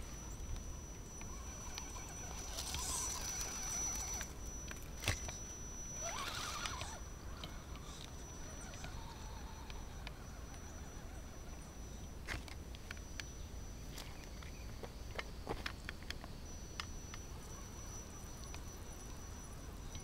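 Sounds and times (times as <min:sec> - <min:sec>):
toy car electric motor whining: 0:00.0 - 0:13.3, 0:16.7 - 0:20.0.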